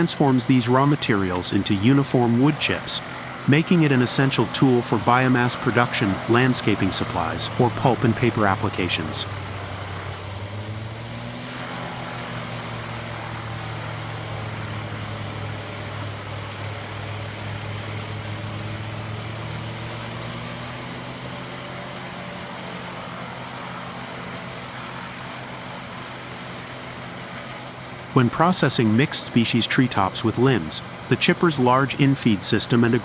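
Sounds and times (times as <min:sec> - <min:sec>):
chipper engine running: 0:00.0 - 0:33.0.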